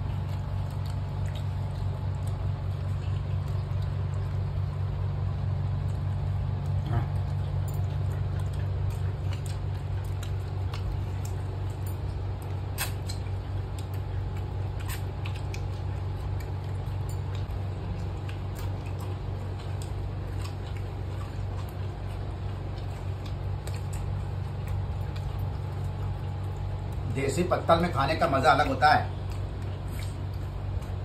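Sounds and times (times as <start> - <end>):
fingers mixing food on leaf plates: 0.0 - 31.0
steady low hum: 0.0 - 31.0.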